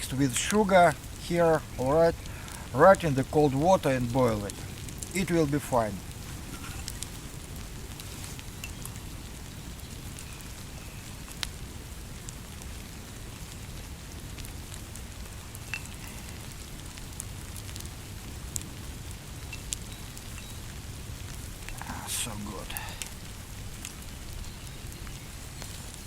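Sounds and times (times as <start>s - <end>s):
campfire crackling: 0.0s - 26.0s
steady rain: 0.0s - 26.0s.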